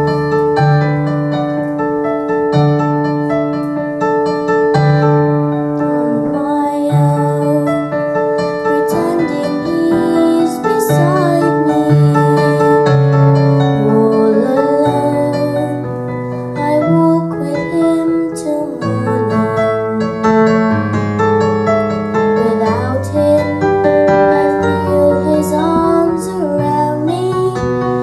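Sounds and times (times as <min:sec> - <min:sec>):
slow piano ballad: 0:00.0 - 0:28.0.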